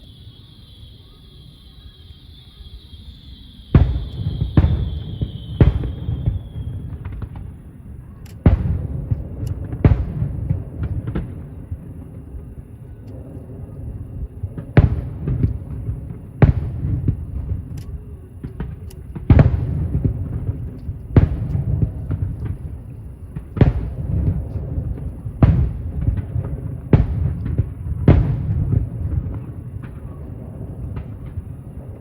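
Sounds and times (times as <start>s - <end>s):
firework booms with echoing rumble: 3.2s - 32.0s
firework pops and crackles: 3.3s - 32.0s.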